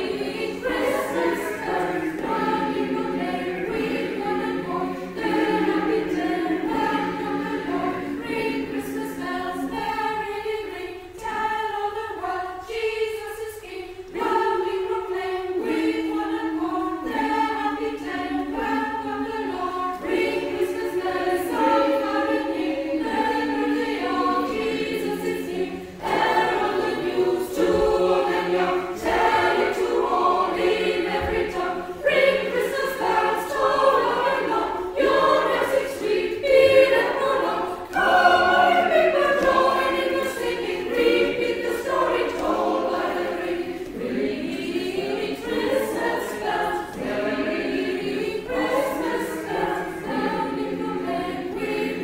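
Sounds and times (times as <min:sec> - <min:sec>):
choir singing held chords: 0:00.0 - 0:52.0.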